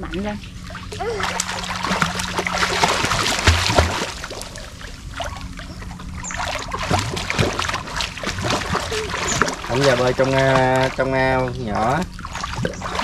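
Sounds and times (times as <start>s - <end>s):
faint steady hum: 0.0s - 13.0s
splashing water: 0.0s - 13.0s.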